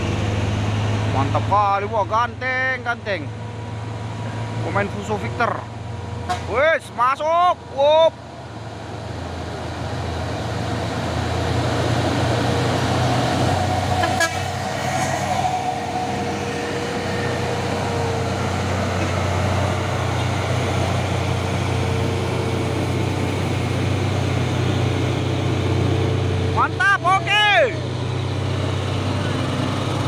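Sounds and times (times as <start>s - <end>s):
diesel truck engine labouring: 0.0s - 30.0s.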